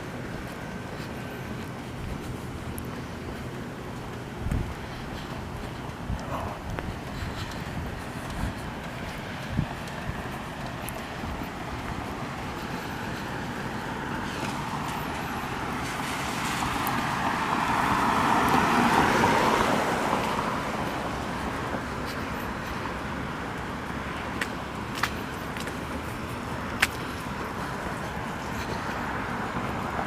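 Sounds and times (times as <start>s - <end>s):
car passing: 0.0s - 30.0s.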